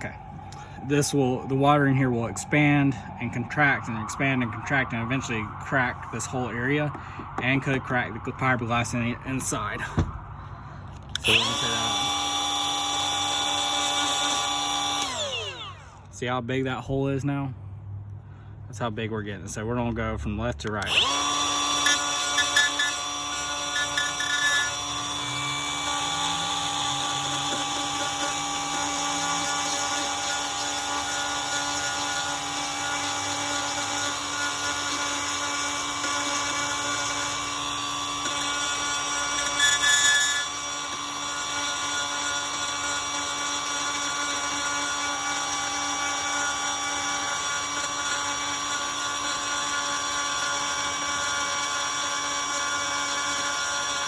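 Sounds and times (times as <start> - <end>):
handheld power tool grinding: 0.0 - 16.1, 20.6 - 54.0.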